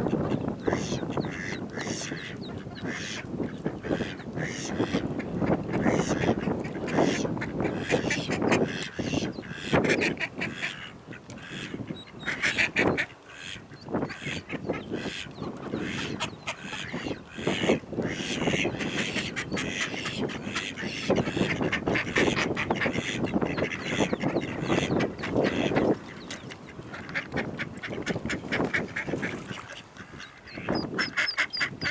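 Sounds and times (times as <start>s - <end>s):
duck quacking: 0.1s - 31.9s.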